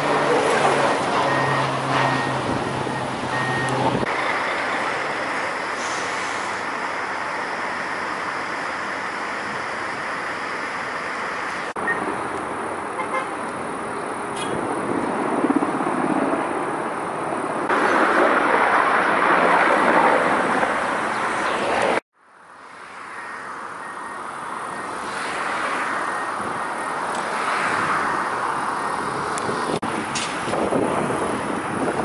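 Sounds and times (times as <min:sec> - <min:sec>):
vehicle engine noise: 0:00.0 - 0:32.0.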